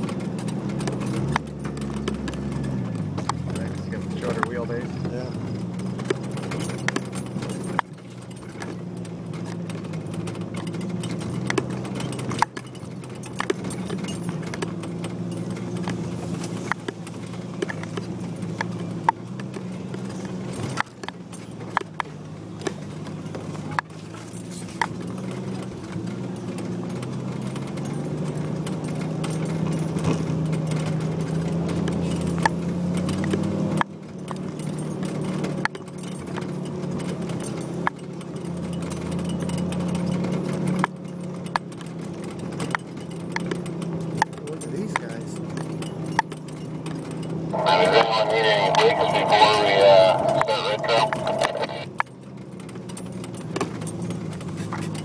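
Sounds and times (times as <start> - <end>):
knocks and rattles over bumps: 0.0 - 55.0
off-road vehicle engine running: 0.0 - 55.0.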